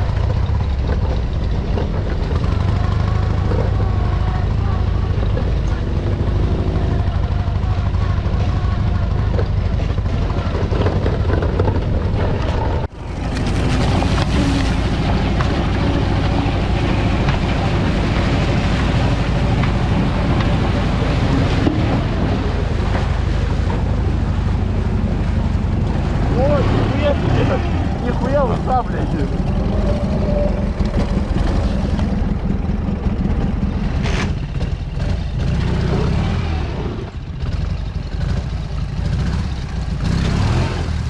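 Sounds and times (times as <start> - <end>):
wind rumbling on microphone: 0.0 - 37.4
motorcycle engine running: 0.0 - 41.0.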